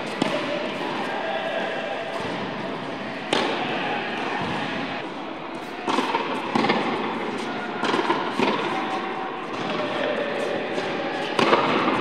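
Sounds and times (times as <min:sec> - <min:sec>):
tennis balls bouncing on court: 0:00.0 - 0:05.0, 0:05.8 - 0:12.0
tennis balls struck by rackets: 0:00.0 - 0:05.0, 0:05.8 - 0:12.0.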